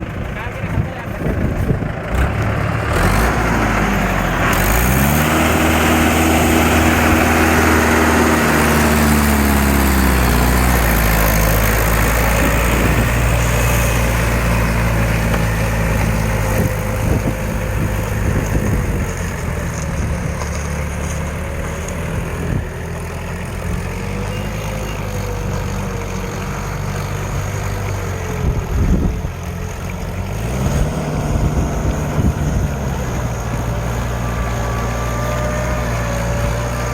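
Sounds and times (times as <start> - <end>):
tractor diesel engine revving: 0.0 - 36.9.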